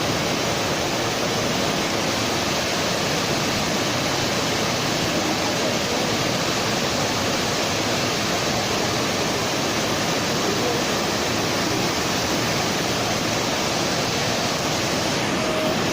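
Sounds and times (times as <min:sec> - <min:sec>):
industrial rushing roar: 0:00.0 - 0:15.9.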